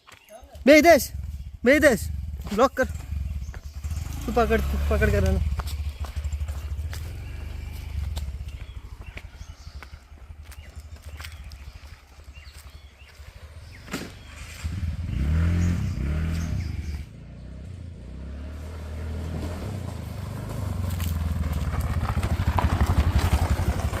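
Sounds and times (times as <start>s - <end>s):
scooter engine revving: 1.0s - 24.0s.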